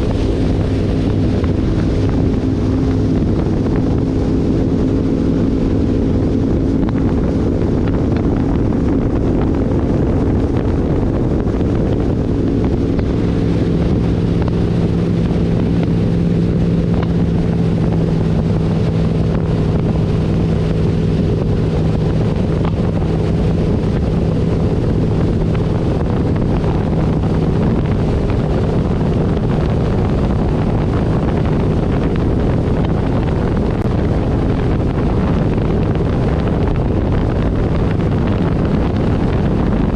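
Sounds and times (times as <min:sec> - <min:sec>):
powerboat engines running: 0:00.0 - 0:39.9
rushing water: 0:00.0 - 0:39.9
wind on microphone: 0:00.0 - 0:39.9.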